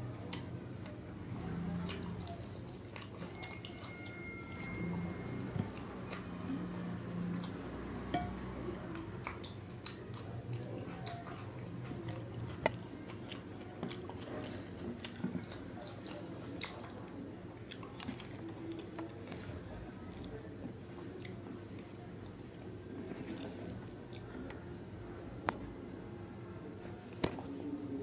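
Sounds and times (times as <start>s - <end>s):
chewing food: 0.3s - 24.8s.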